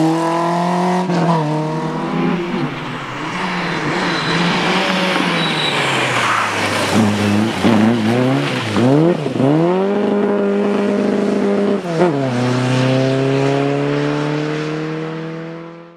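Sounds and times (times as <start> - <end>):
car engine accelerating hard: 0.0 - 15.9.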